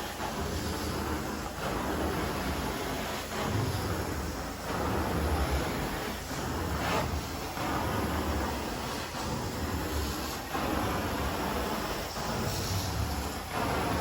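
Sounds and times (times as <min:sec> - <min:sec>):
carpet extraction vacuum running: 0:00.0 - 0:14.0.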